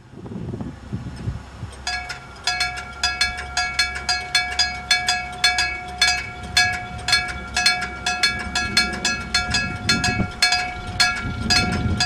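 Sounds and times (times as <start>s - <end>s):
crossing bell ringing: 1.8s - 12.0s
low rumble: 1.9s - 12.0s.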